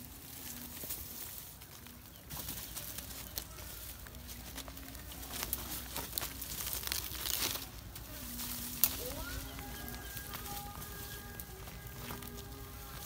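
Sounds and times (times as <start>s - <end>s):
leaves crackling underfoot: 0.0s - 13.0s.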